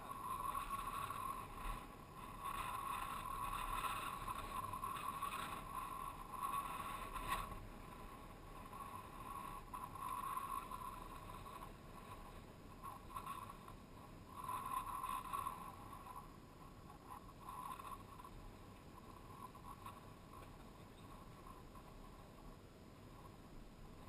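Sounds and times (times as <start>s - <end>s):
wind noise on microphone: 0.0s - 24.0s.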